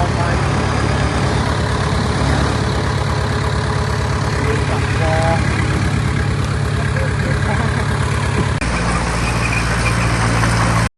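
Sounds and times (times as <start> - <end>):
heavy diesel engine idling: 0.0 - 10.9.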